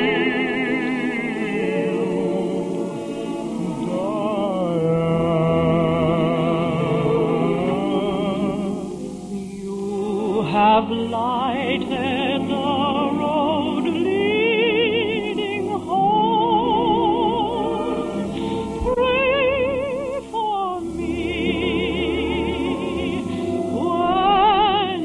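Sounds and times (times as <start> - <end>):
operatic singing: 0.0 - 25.0
orchestral accompaniment: 0.0 - 25.0.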